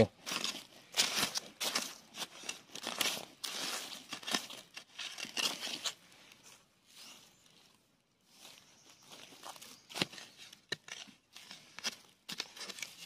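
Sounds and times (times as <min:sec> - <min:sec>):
sand and gravel crunching: 0:00.0 - 0:13.0.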